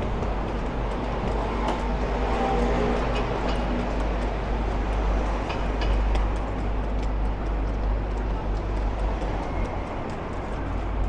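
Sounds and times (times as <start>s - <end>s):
road noise: 0.0s - 11.0s
traffic engine rumble: 0.0s - 11.0s.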